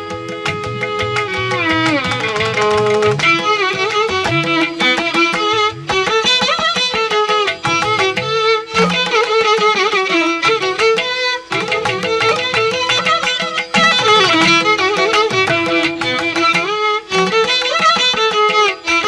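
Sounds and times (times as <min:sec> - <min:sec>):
ornamented instrumental melody: 0:00.0 - 0:19.0.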